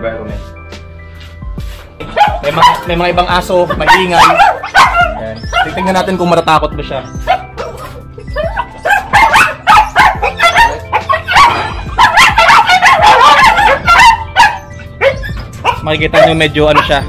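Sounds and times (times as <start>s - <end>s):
dogs barking: 2.0s - 6.4s, 7.1s - 17.0s.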